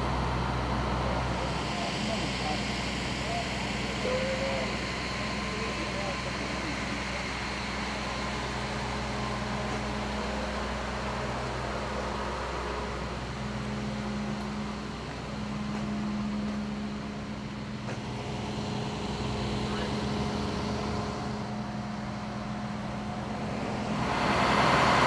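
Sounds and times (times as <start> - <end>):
engine idling hum: 0.0 - 25.0.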